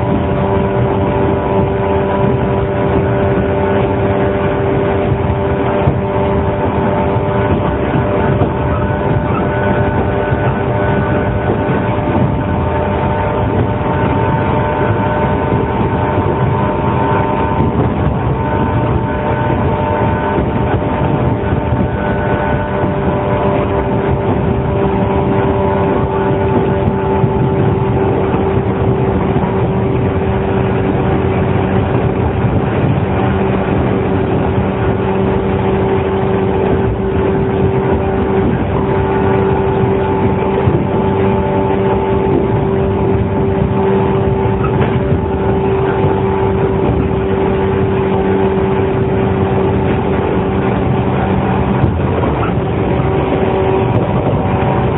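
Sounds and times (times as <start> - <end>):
wheels rumbling on rail: 0.0 - 54.9
train motor whine: 6.7 - 54.9.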